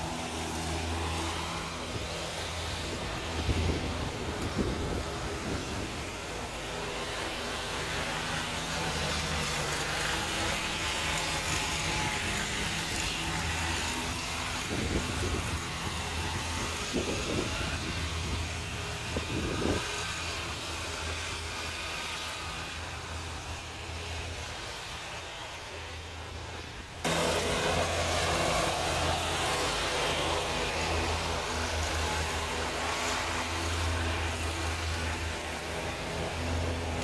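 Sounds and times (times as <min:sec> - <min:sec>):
road traffic hum: 0:00.0 - 0:37.0.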